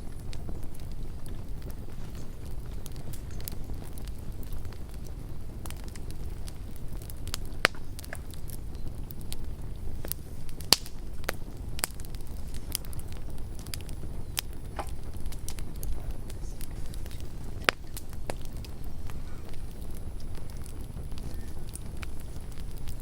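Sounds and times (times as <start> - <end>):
campfire crackles and pops: 0.0 - 23.0
campfire low rumble: 0.0 - 23.0.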